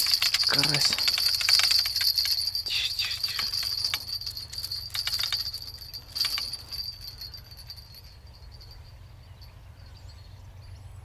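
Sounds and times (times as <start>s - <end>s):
fishing tackle clicking and jingling: 0.0s - 10.1s.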